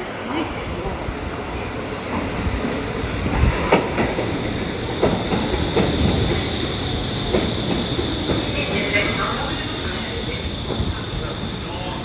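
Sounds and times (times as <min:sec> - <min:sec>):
high train whine: 0:00.0 - 0:12.0
metro train rumbling on rails: 0:00.0 - 0:12.0.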